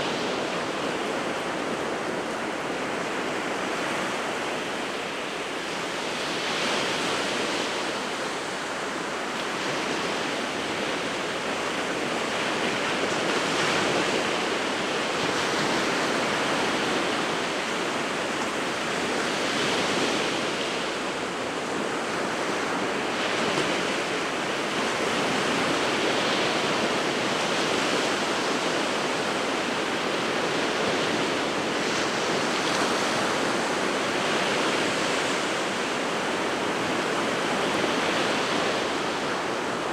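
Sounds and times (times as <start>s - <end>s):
surf washing on the shore: 0.0s - 39.9s.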